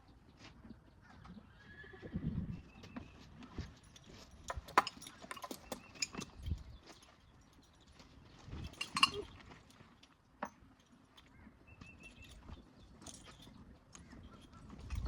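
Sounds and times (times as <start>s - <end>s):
hooves and tack clicking: 0.0s - 15.0s.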